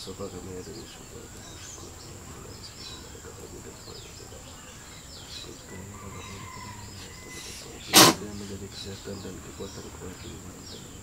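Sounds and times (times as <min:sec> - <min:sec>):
insects whining: 0:00.0 - 0:11.0
small birds chirping: 0:00.0 - 0:11.0.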